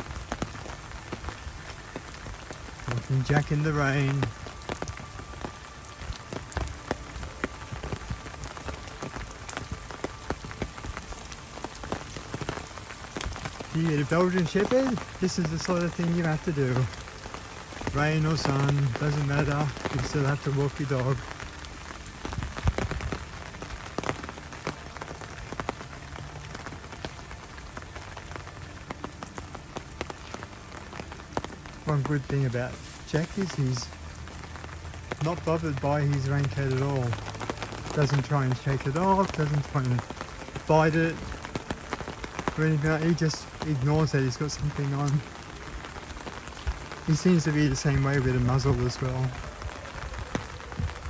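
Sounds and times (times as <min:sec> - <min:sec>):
raindrops tapping close by: 0:00.0 - 0:51.0
sharp water drips: 0:00.0 - 0:51.0
steady rain: 0:00.0 - 0:51.0.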